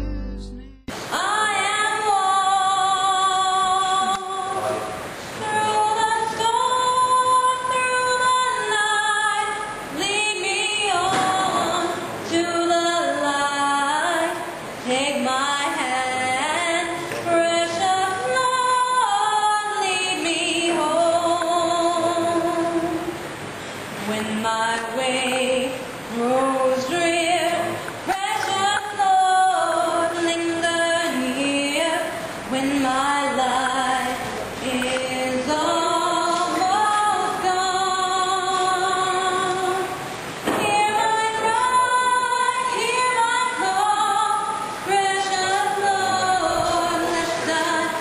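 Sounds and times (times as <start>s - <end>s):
woman singing unaccompanied: 0.0s - 23.2s, 24.0s - 48.0s.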